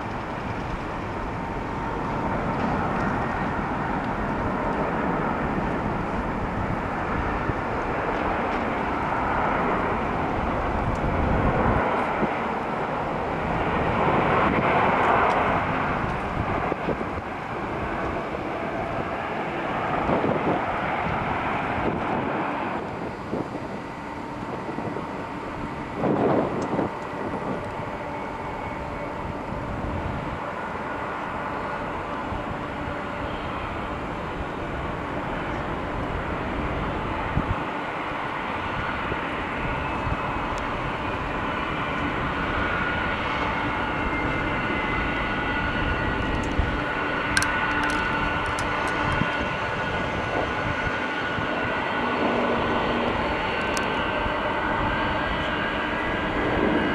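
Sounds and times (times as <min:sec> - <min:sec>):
distant jet engines rumbling: 0:00.0 - 0:56.9
faint high whine: 0:00.0 - 0:56.9.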